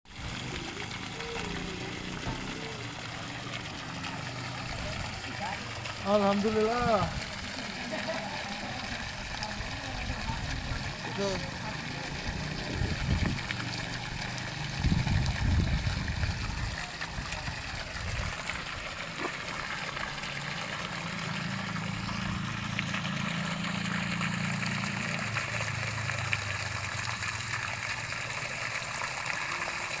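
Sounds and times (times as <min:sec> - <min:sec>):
water gushing and splashing: 0:00.0 - 0:30.0
water pump humming: 0:00.1 - 0:30.0.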